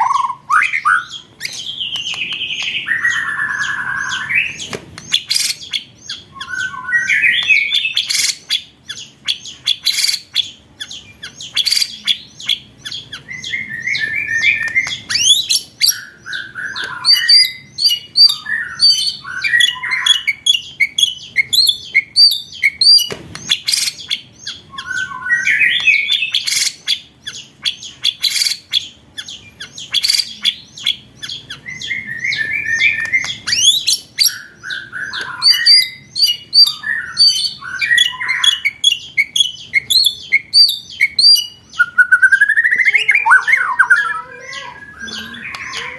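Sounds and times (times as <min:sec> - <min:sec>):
songbird whistled phrases: 0:00.0 - 0:45.9.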